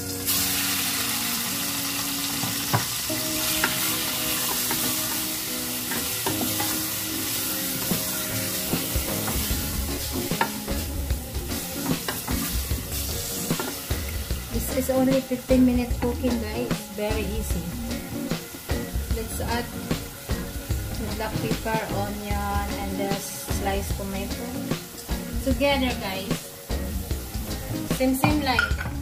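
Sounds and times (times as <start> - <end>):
chicken sizzling in hot oil: 0.0 - 28.7.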